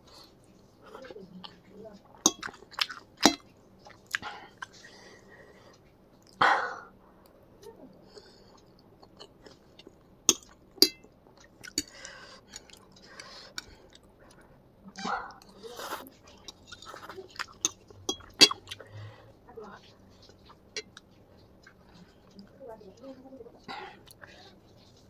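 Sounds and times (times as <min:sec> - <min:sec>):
person chewing food: 0:00.0 - 0:06.4, 0:08.0 - 0:25.0.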